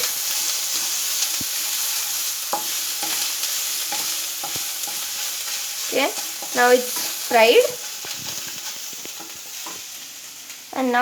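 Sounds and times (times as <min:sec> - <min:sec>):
spoon scraping and tapping pan: 0:00.0 - 0:09.9
paste sizzling in hot oil: 0:00.0 - 0:11.0.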